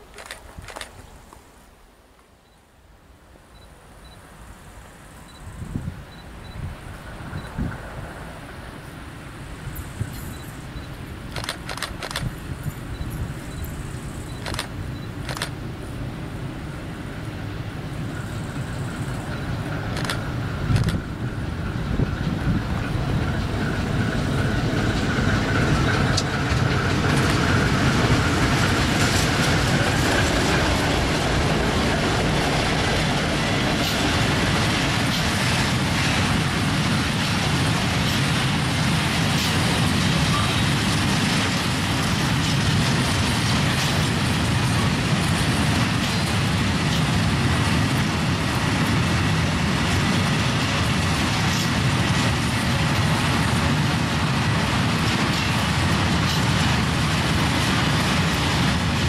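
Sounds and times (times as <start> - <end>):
train wheels rumbling on rail: 0.0 - 1.4, 3.6 - 59.0
diesel locomotive engine: 3.5 - 59.0.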